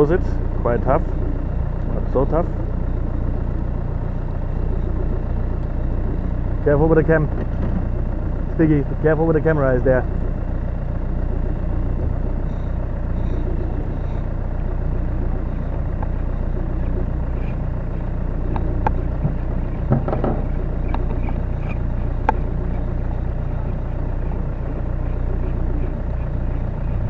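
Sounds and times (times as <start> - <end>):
outboard motor idling: 0.0 - 27.0.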